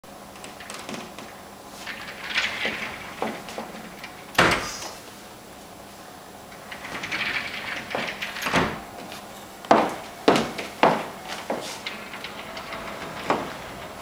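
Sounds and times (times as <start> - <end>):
sliding door rolling on track: 0.2 - 14.0.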